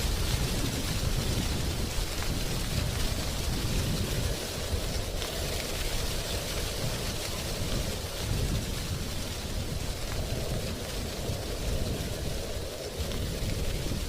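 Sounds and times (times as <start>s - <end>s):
deep rumble: 0.0s - 14.0s
wind rustling tree leaves: 0.0s - 14.0s.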